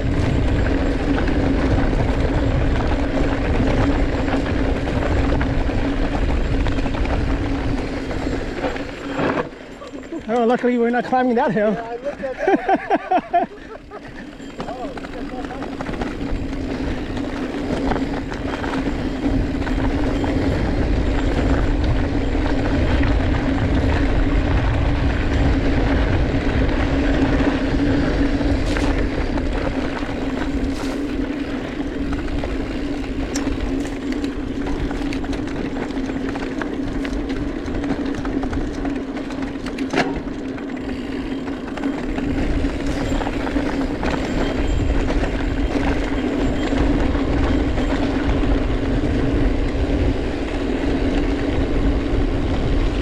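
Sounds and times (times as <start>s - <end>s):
wind rumbling on microphone: 0.0s - 10.0s, 11.9s - 53.0s
bike clicks and rattles: 0.0s - 53.0s
knobby tyres humming: 0.0s - 53.0s.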